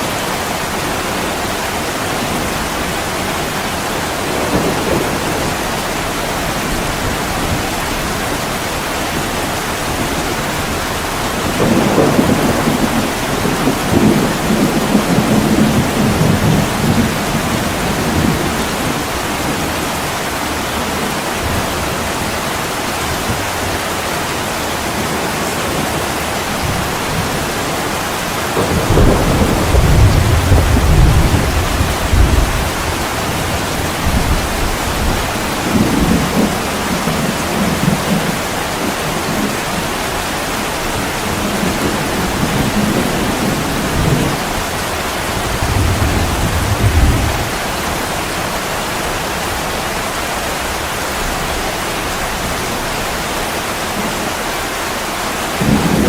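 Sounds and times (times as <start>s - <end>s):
heavy rain on a window: 0.0s - 56.0s
thunder rumbling: 0.2s - 53.2s, 55.5s - 56.0s.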